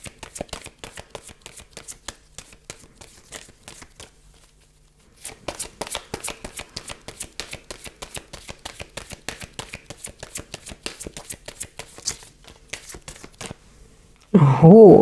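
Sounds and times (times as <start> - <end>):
cards being shuffled: 0.1 - 13.6.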